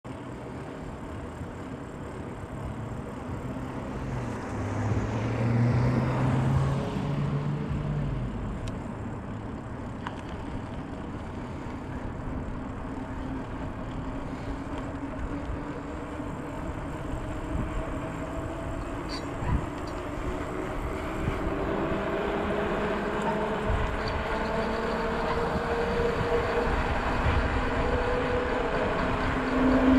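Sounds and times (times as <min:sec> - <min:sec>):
wind and road noise: 0:00.0 - 0:29.9
motor vehicle passing: 0:00.3 - 0:29.9.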